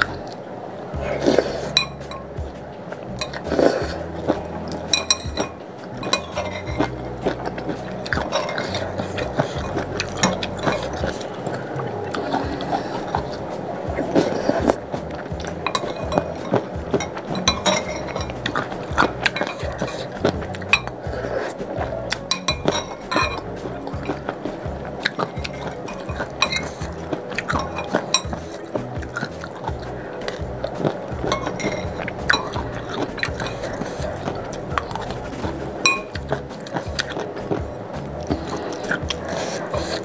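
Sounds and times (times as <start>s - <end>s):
slurping noodles: 1.0s - 2.3s, 3.2s - 40.0s.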